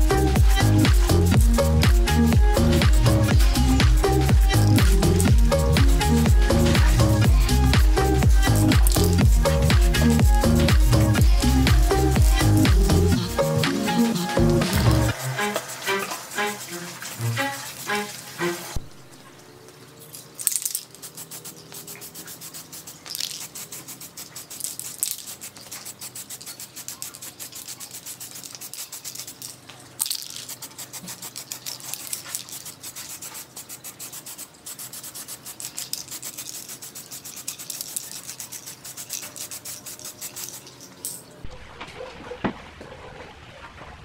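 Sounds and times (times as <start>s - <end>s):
hand sanding strokes: 0.0s - 18.9s, 20.5s - 41.0s
harder sanding scrapes: 0.0s - 18.9s, 20.8s - 29.6s, 30.2s - 41.0s.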